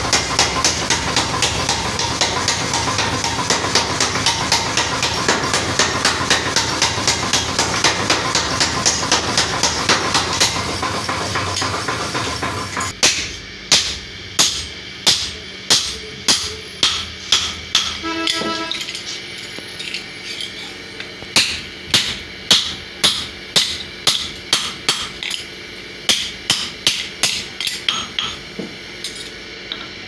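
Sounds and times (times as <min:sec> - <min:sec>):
hammer striking metal on anvil: 0:00.0 - 0:19.2, 0:21.4 - 0:29.9.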